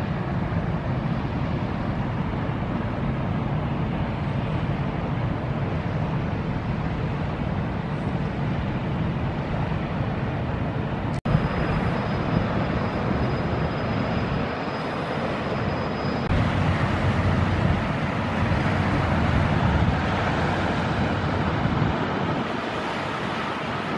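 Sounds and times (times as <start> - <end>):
water rushing: 0.0 - 23.9
wind: 0.0 - 23.9.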